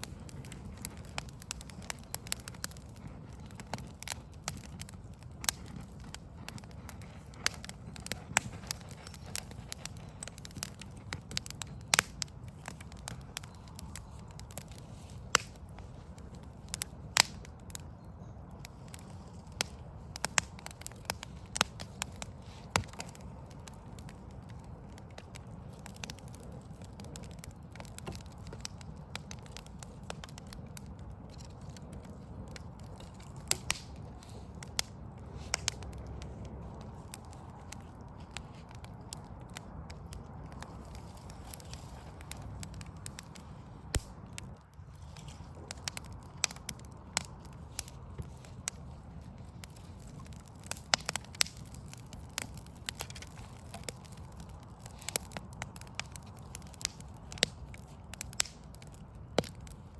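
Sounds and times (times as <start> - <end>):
distant city rumble: 0.0 - 59.9
wood fire crackling and popping: 0.0 - 59.9.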